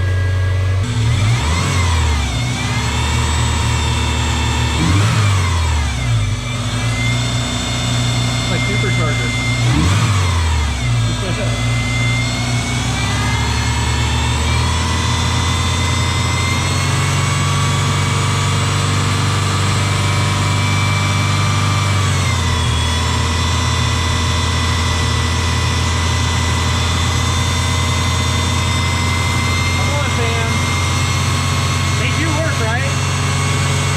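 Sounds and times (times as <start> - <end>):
car engine idling: 0.0 - 33.9
high engine whine: 0.0 - 33.9.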